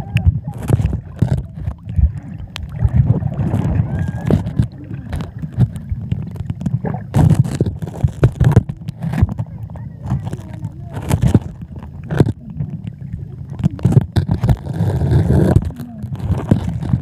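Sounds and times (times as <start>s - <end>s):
muffled underwater rumble: 0.0s - 17.0s
underwater knocks and clicks: 0.0s - 17.0s.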